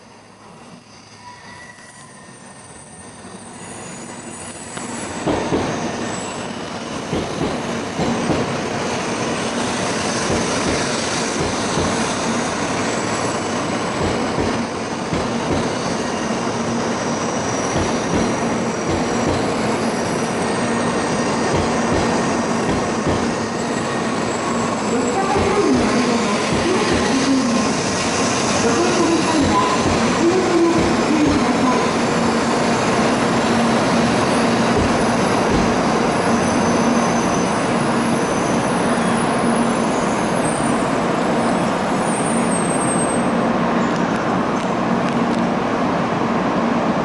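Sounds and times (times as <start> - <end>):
high-speed train rushing past: 0.0 - 47.0.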